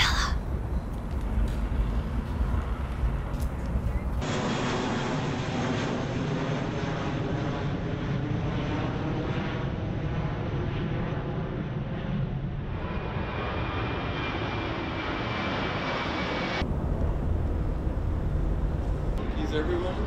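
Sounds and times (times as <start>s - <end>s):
jet airliner flying overhead: 0.0s - 20.0s.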